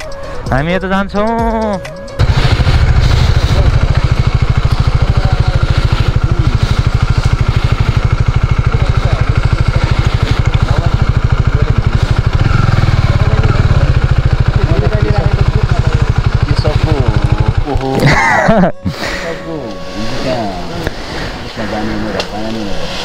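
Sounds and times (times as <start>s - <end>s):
motorcycle engine idling: 1.2s - 23.0s.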